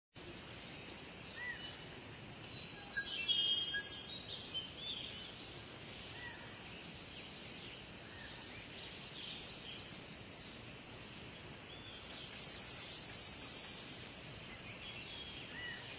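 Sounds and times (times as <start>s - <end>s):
outdoor ambience hiss: 0.2s - 15.9s
birds chirping and calling: 0.3s - 15.9s.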